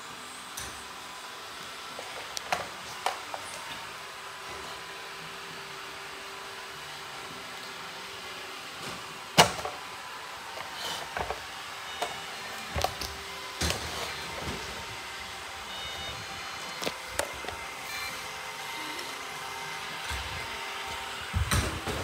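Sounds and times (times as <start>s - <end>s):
robot cleaners whirring: 0.0s - 22.0s.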